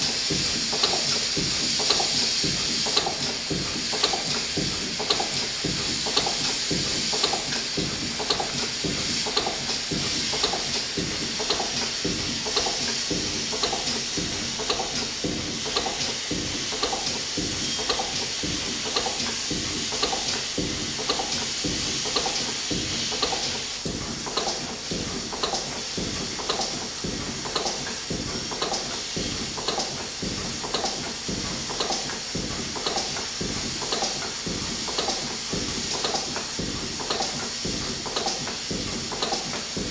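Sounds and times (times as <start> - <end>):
steam engine rhythmic beat: 0.0 - 39.9
steam hissing: 0.0 - 39.9.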